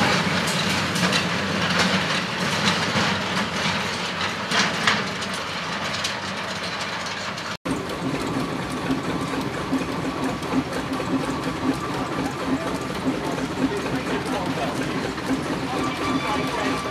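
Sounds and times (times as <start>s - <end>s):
steady engine hum: 0.0s - 16.9s
train wheels clicking over rail joints: 0.0s - 16.9s.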